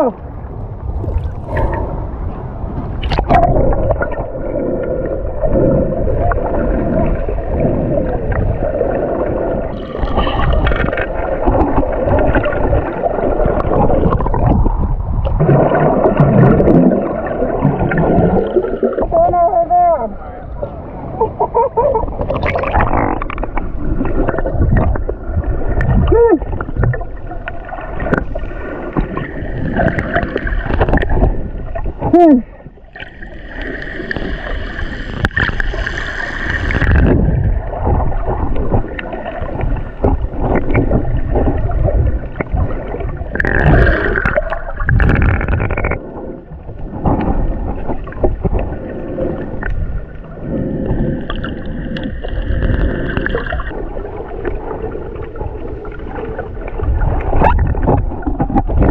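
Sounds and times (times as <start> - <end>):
water sloshing and gurgling: 0.0 - 58.9.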